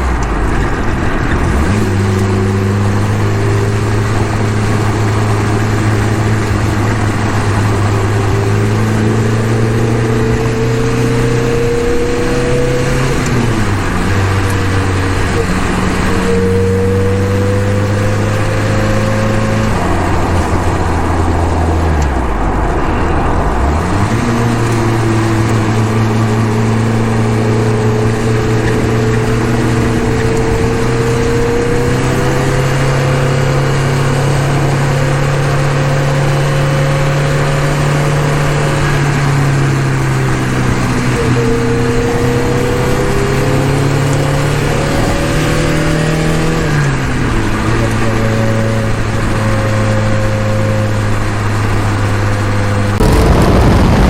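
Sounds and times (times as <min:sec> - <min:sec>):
car engine pulling: 0:00.0 - 0:54.0
road and wind noise: 0:00.0 - 0:54.0.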